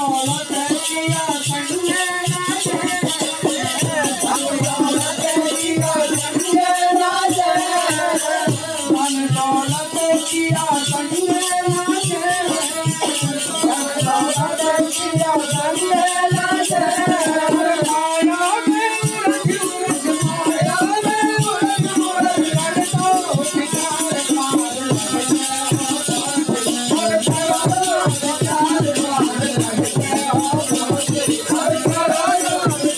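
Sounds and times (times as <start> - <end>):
jingling percussion: 0.0 - 32.9.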